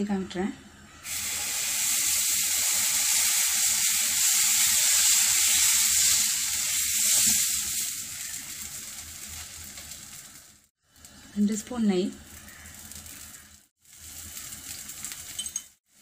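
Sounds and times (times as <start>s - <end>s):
batter sizzling on hot griddle: 1.0s - 16.0s.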